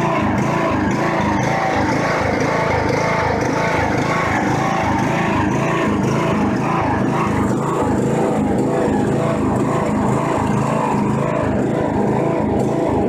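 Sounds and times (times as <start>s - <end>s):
riding mower engine running: 0.0s - 13.0s.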